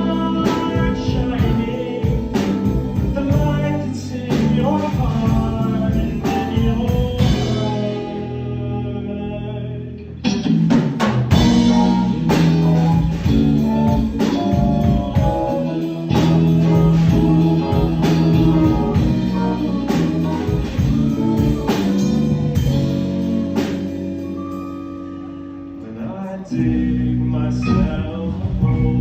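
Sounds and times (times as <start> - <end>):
drum kit: 0.0 - 9.4, 10.2 - 25.8, 26.6 - 29.0
bass guitar: 0.0 - 29.0
electric guitar: 0.0 - 29.0
keyboard: 0.0 - 29.0.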